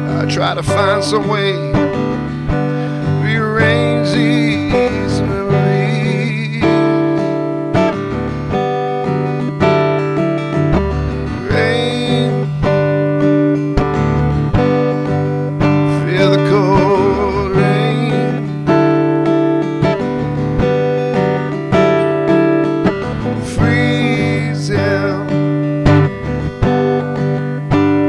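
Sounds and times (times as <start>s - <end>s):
person singing: 0.0s - 14.0s, 14.7s - 20.3s, 21.0s - 28.0s
acoustic guitar strumming: 0.0s - 28.0s.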